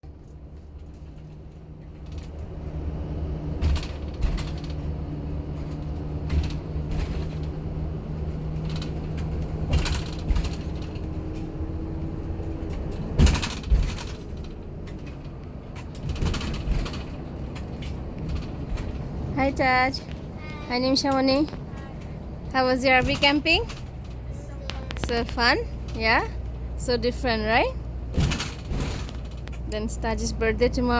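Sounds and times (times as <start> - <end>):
mechanical hum with low rumble: 0.0 - 30.9.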